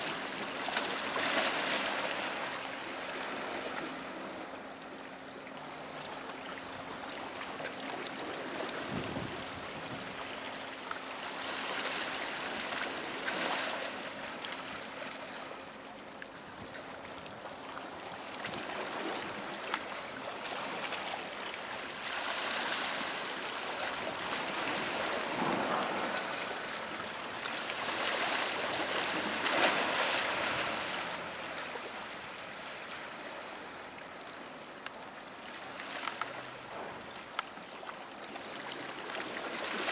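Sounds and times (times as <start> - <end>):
faint steady hum: 0.0 - 39.9
water churning along hull: 0.0 - 39.9.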